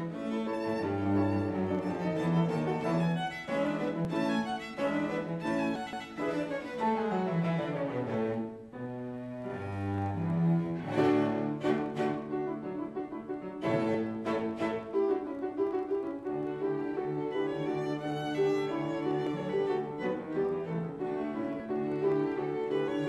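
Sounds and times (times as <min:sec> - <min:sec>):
classical instrumental music: 0:00.0 - 0:23.0.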